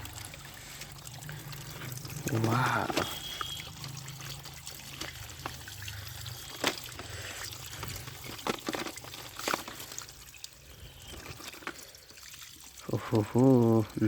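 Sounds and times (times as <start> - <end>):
water trickling and pouring: 0.0 - 14.0.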